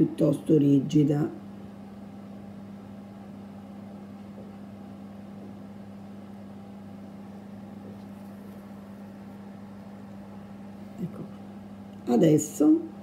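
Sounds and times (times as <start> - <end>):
room noise hiss: 0.0 - 13.0
steady low hum: 0.0 - 13.0.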